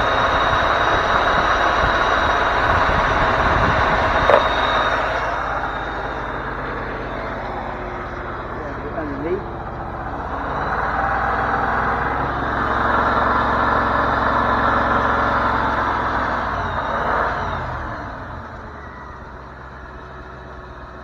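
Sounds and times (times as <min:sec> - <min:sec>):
engine revving and idling: 0:00.0 - 0:21.0.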